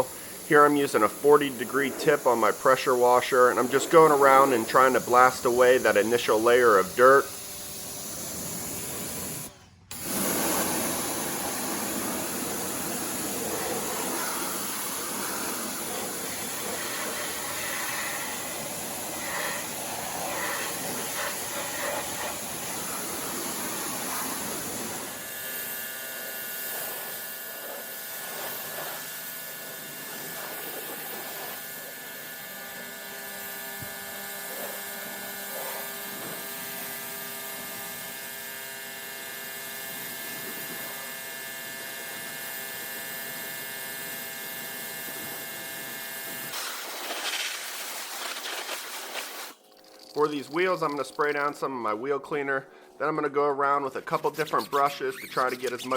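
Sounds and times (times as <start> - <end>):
pressure washer spraying water: 0.0 - 51.5.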